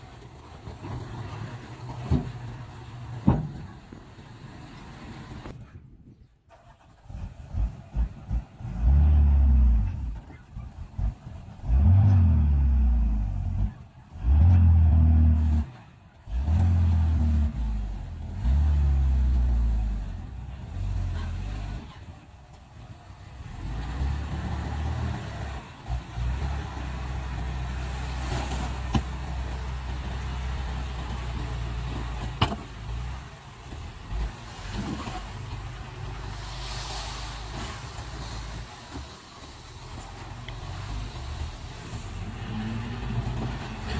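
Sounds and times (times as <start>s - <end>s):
heavy machine engines revving: 7.0s - 43.9s.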